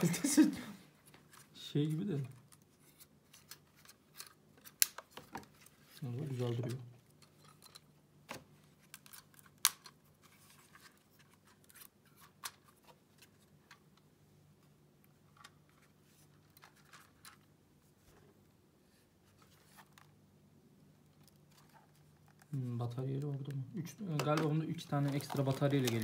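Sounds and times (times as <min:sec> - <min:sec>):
plastic clicks and packaging rustles: 0:01.0 - 0:17.5, 0:21.0 - 0:26.0.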